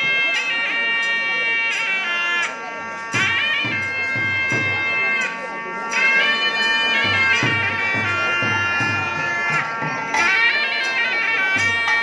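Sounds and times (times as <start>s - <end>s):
double-reed pipe melody: 0.0s - 12.0s
drum strokes: 0.0s - 12.0s.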